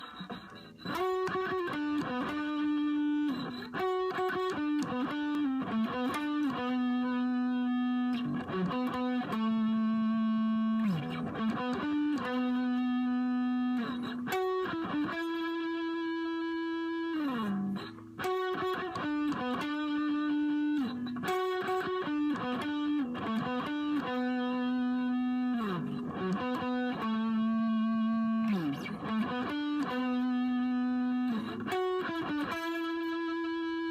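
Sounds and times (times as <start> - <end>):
electric guitar melody: 0.0 - 33.9.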